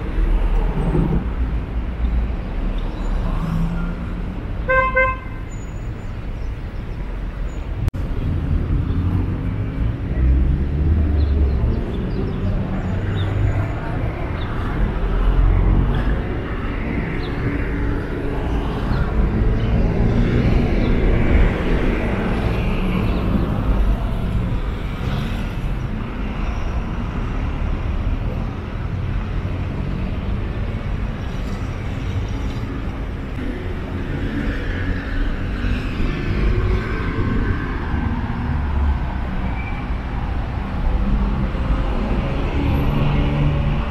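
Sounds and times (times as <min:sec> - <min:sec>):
cars passing: 0:00.0 - 0:43.9.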